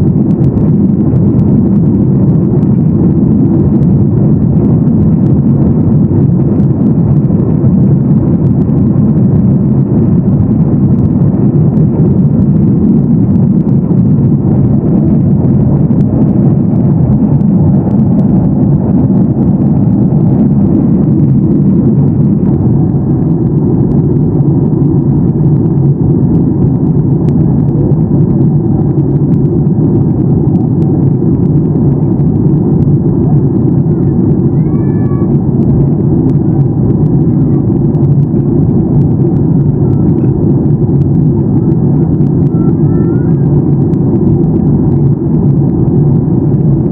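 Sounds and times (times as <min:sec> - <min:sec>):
airplane cabin noise: 0:00.0 - 0:46.9.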